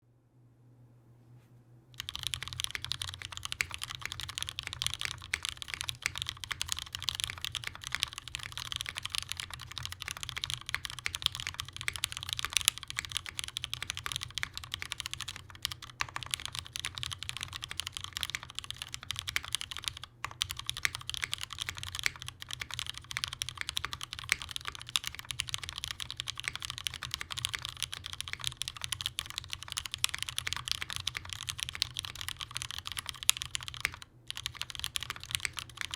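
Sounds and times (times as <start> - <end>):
fast typing on mechanical keyboard: 2.0 - 35.9.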